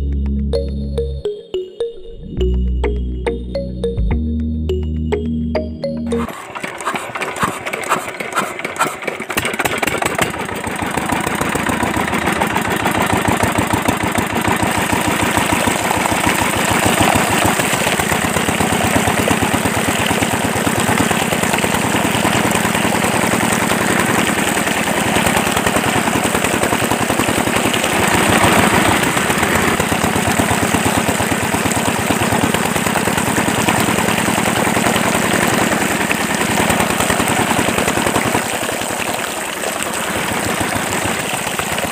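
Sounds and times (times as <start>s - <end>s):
model diesel engine clattering: 6.1s - 41.9s.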